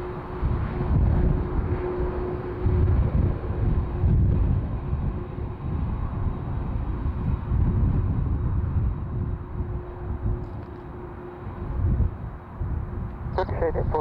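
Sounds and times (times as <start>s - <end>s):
jet airliner taxiing rumble: 0.0s - 14.0s
wind on microphone: 0.0s - 14.0s.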